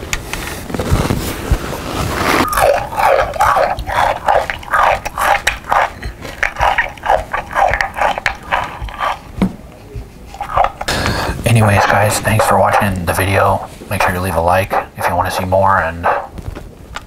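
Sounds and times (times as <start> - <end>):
chewing noises through megaphone: 2.2 - 16.4.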